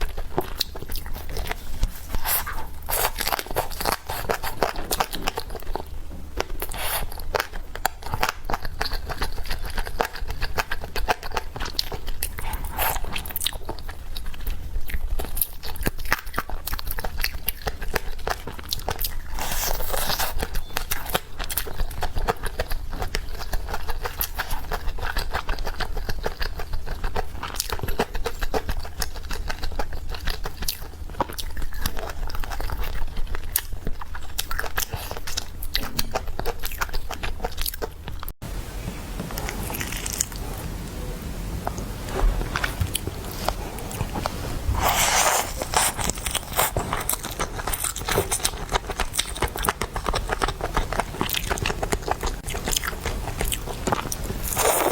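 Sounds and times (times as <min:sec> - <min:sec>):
chewing with crackling clicks: 0:00.0 - 0:38.4, 0:39.2 - 0:41.0, 0:41.6 - 0:54.9.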